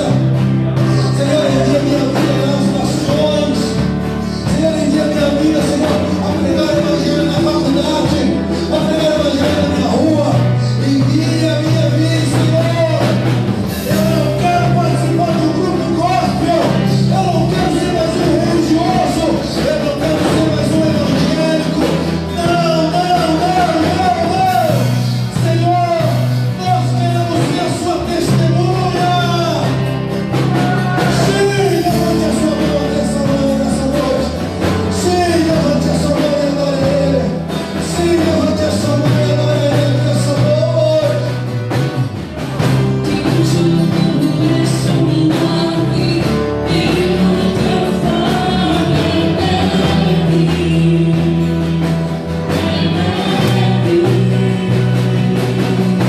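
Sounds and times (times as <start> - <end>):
worship singing over a band: 0.0 - 56.0.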